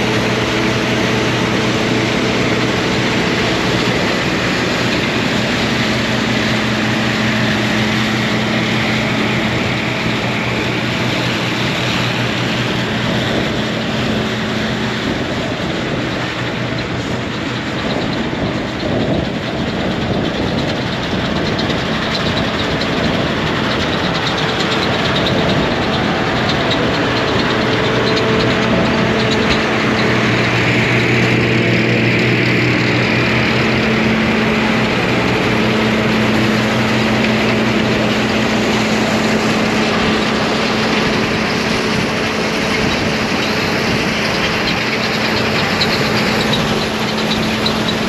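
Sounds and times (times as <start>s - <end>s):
combine engine hum: 0.0s - 48.0s
combine threshing noise: 0.0s - 48.0s.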